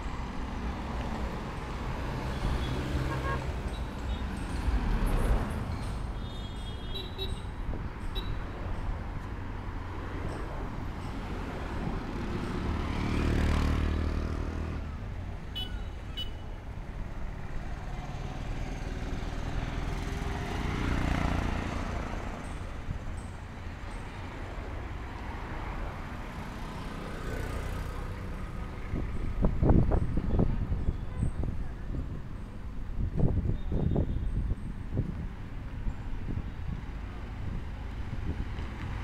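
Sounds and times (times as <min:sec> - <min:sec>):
passing vehicles rumbling: 0:00.0 - 0:39.0.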